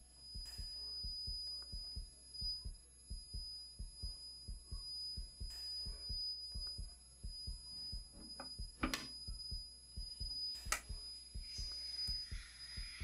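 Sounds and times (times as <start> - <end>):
steady high whine: 0.0 - 13.0
stylus hiss on record: 0.0 - 13.0
tonearm clicks: 0.3 - 13.0
low regular thump: 0.4 - 13.0.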